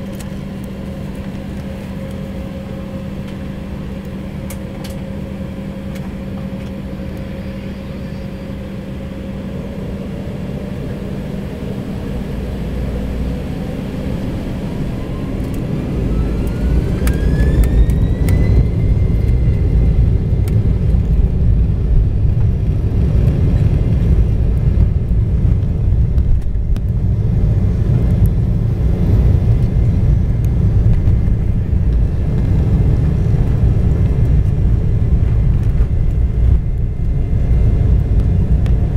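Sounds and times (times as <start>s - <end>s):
jet engine whine: 0.0s - 38.9s
takeoff roll rumble: 0.0s - 38.9s.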